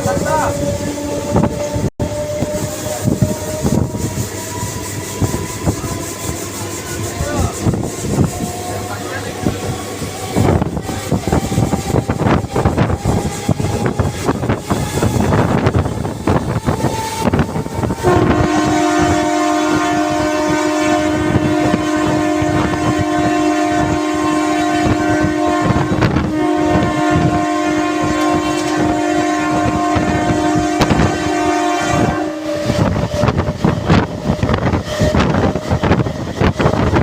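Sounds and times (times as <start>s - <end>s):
train horn: 0.0s - 36.9s
train rattling and clattering: 0.0s - 37.0s
wind buffeting microphone: 0.0s - 37.0s.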